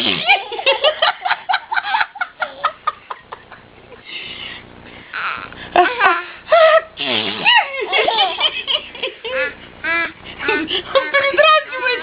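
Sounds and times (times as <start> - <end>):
person laughing: 0.1 - 4.1, 5.2 - 12.0.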